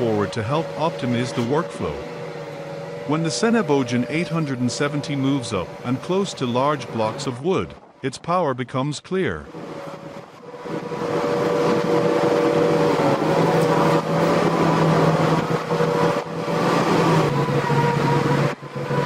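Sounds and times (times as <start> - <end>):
machine engine humming: 0.0 - 8.0, 9.4 - 19.0.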